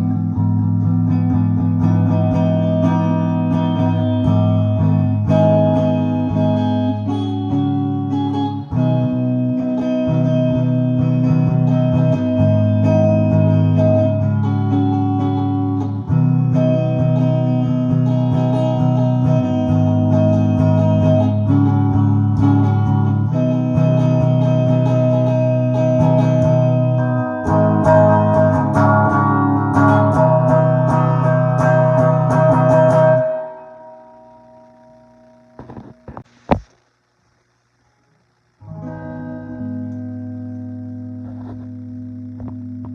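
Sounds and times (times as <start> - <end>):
guitar-led music with heavy bass: 0.0 - 36.7, 38.4 - 42.9.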